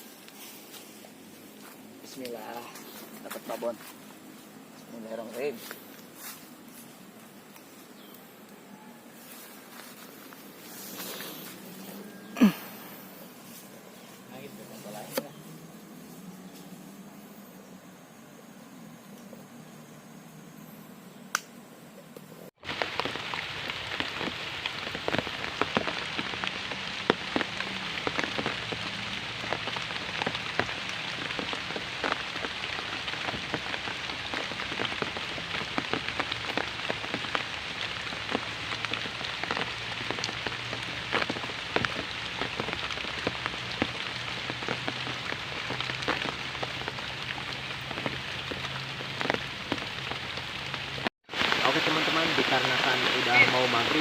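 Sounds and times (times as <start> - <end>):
rain drops pattering: 1.4 - 8.3, 9.3 - 16.6, 22.5 - 54.0.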